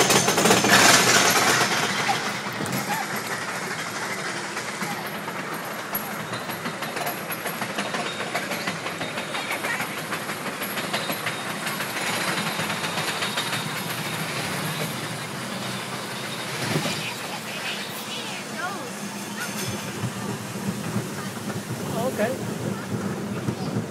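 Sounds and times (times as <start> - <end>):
roller coaster cars rattling: 0.0 - 23.9
roller coaster jolt: 0.0 - 23.9.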